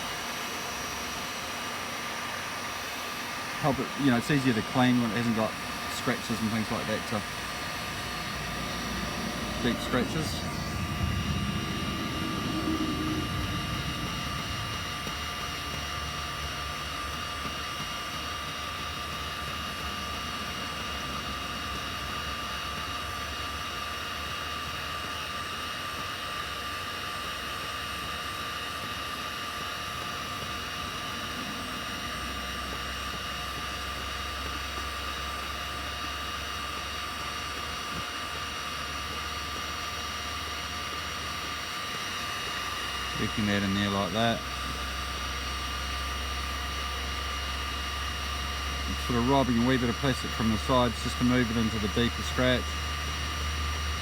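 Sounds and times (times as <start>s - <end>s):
heat gun blowing with fan whine: 0.0s - 24.8s, 26.8s - 54.0s.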